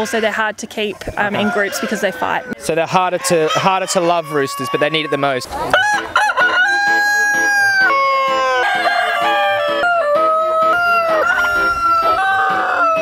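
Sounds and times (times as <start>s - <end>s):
roosters crowing: 0.0s - 13.0s.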